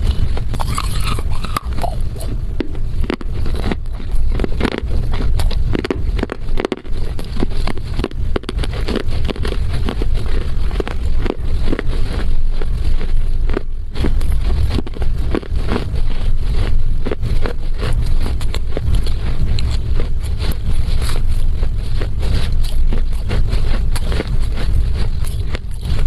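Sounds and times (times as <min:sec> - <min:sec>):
chewing crunches: 0:00.0 - 0:26.0
low rumble: 0:00.0 - 0:26.0.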